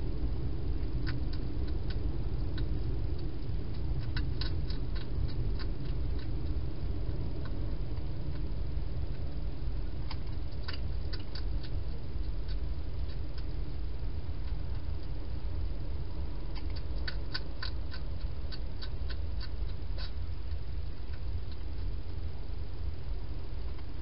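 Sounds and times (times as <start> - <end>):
hedgehog crunching food: 0.0 - 24.0
steady low rumble: 0.0 - 24.0.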